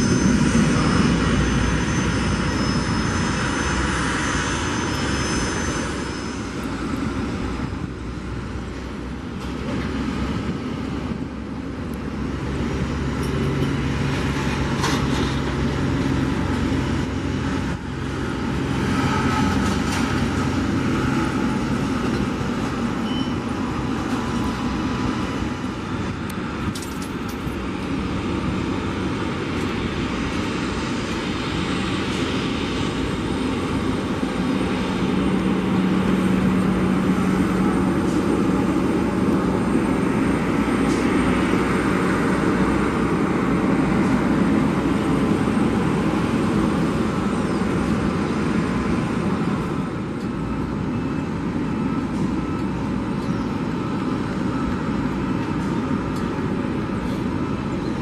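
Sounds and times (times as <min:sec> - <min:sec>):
jet airliner climbing: 0:00.0 - 0:58.0
jet taxiing rumble and whine: 0:00.0 - 0:58.0.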